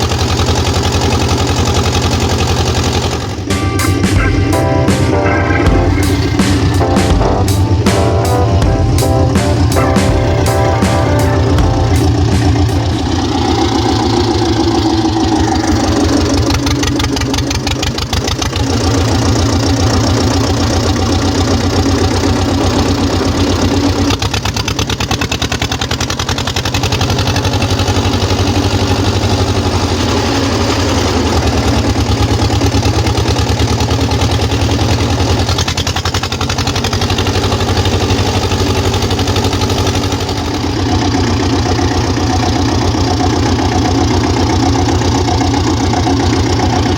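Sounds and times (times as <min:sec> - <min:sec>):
tractor diesel engine running: 0:00.0 - 0:09.8, 0:10.6 - 0:46.9.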